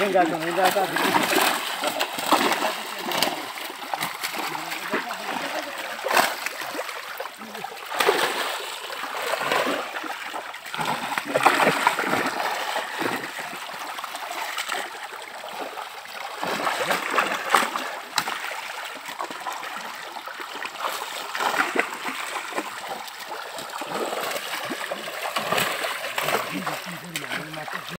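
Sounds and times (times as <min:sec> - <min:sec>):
fish thrashing and splashing water: 0:00.0 - 0:27.9.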